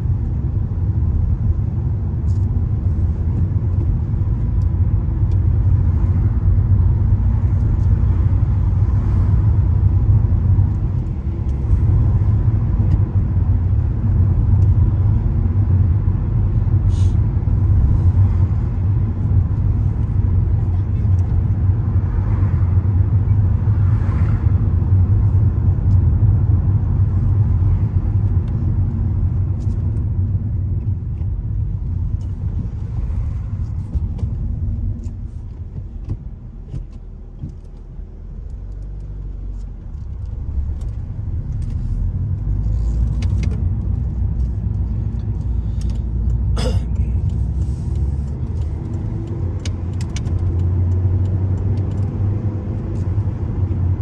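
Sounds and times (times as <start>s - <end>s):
road and engine rumble in car: 0.0s - 54.0s.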